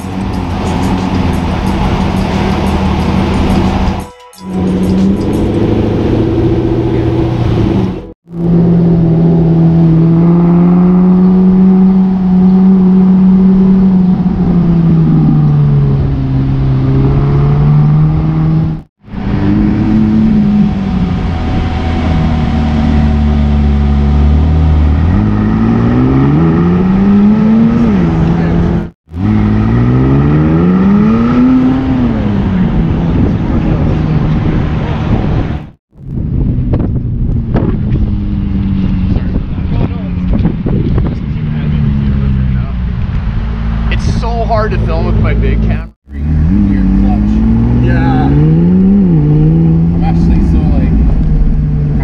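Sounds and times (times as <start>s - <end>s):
car engine cruising and accelerating: 0.0s - 52.0s.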